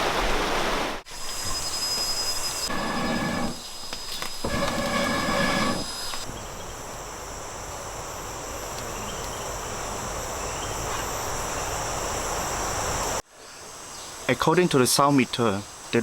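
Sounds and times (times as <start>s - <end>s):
crickets and cicadas buzzing: 1.1s - 16.0s.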